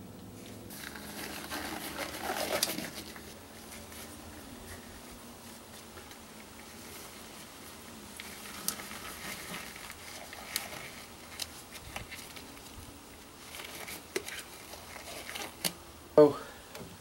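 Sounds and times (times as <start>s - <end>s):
rubber gloves rustling: 0.3s - 15.8s.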